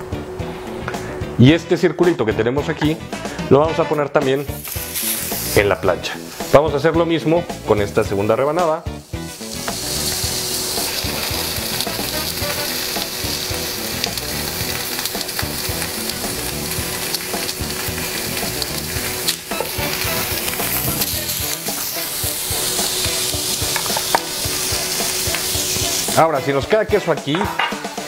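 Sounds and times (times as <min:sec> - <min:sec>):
food sizzling in oil: 0:04.4 - 0:27.0.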